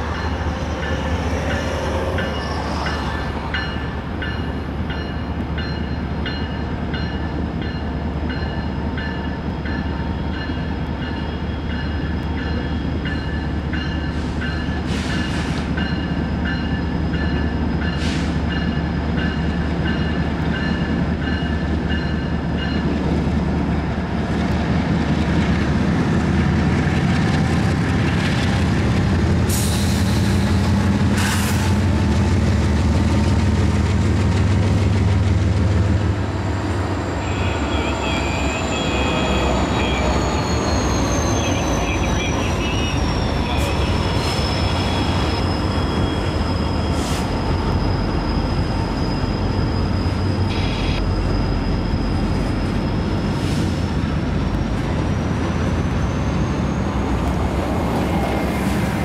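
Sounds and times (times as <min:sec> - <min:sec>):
train wheel squeal: 0:00.0 - 0:22.9, 0:29.5 - 0:32.0, 0:35.8 - 0:59.0
locomotive rumble: 0:00.0 - 0:59.0.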